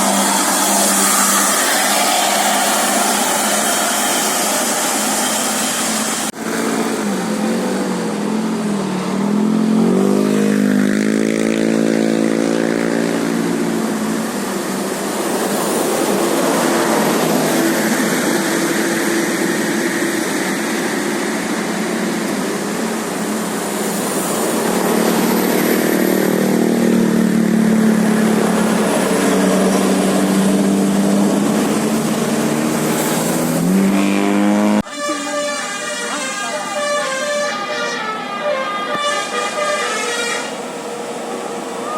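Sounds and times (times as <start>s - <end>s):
bus engine under load: 0.0s - 41.9s
road noise: 0.0s - 41.9s.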